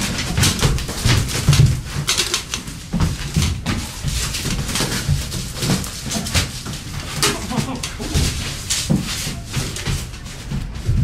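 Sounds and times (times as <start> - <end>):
rustling and knocking: 0.0 - 11.0.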